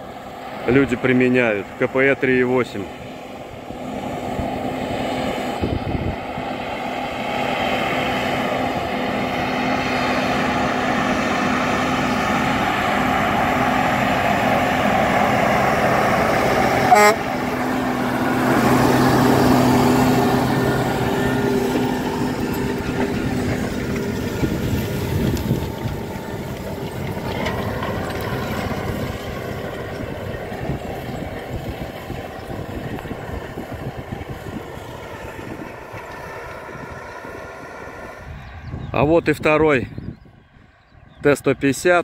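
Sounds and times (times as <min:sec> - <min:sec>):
tractor diesel engine running: 0:00.0 - 0:40.3.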